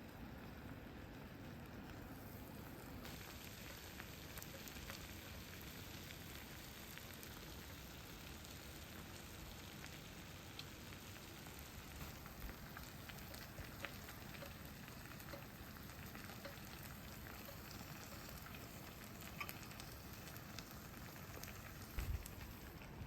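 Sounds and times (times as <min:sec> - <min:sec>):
food sizzling on hot plate: 0:00.1 - 0:23.0.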